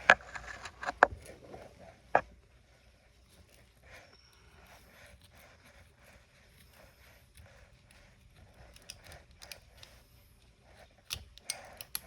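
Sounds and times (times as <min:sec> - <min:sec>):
small tools scraping and tapping: 0:00.0 - 0:02.3, 0:03.2 - 0:12.0.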